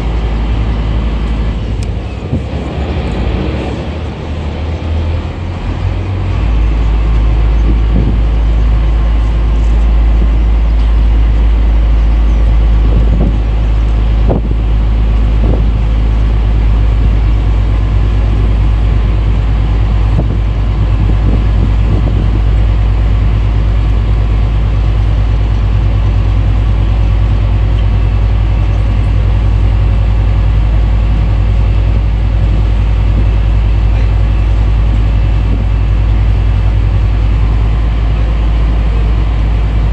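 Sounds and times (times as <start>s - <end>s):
boat engine drone: 0.0s - 39.9s
wind buffeting microphone: 0.0s - 39.9s.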